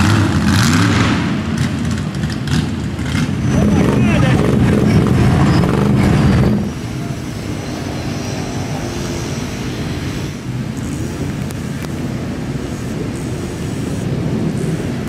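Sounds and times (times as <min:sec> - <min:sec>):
distant engines droning: 0:00.0 - 0:15.0
truck engine running loud: 0:00.0 - 0:15.0.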